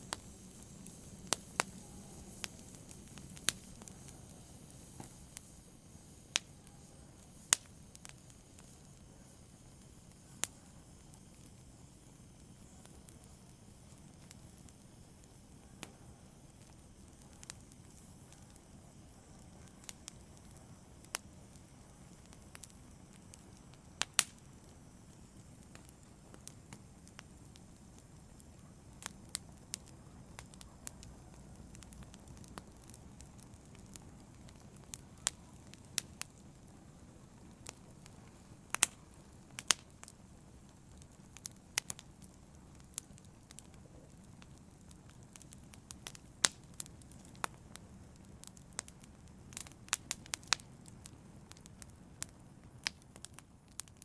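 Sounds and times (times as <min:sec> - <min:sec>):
faint hiss of flames: 0:00.0 - 0:54.0
wood fire crackling and popping: 0:00.0 - 0:54.0.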